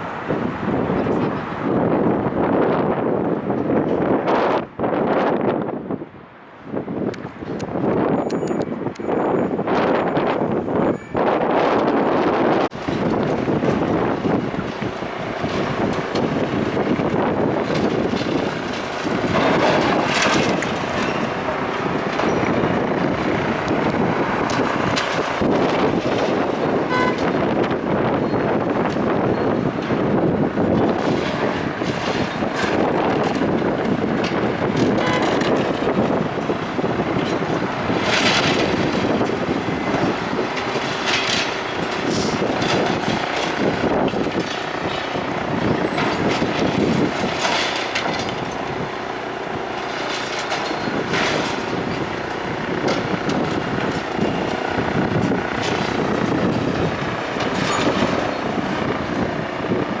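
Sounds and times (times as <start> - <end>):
heavy demolition machinery: 0.0 - 60.0
wind buffeting microphone: 0.0 - 60.0.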